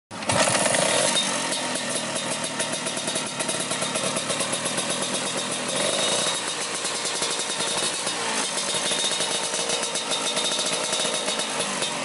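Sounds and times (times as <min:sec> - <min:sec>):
scooter engine running: 0:00.1 - 0:12.0.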